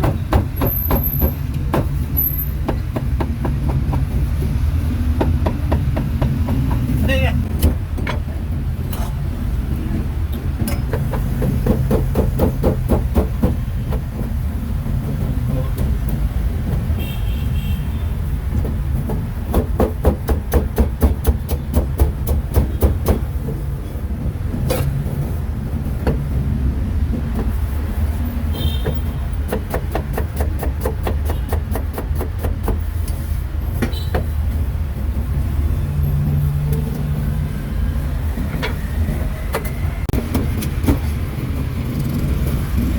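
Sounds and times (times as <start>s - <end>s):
street traffic rumble: 0.0s - 42.9s.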